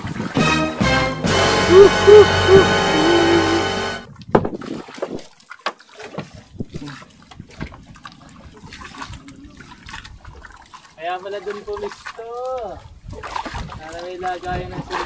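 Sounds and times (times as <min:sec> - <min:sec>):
seawater splashing and dripping: 0:00.0 - 0:02.4, 0:03.0 - 0:15.0.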